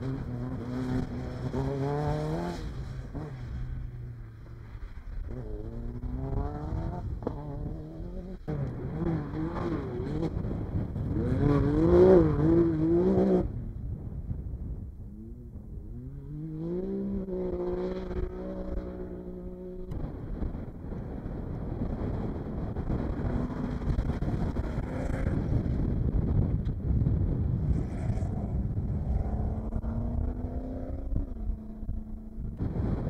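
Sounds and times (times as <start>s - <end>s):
race car engines revving: 0.0s - 13.8s, 15.0s - 33.0s.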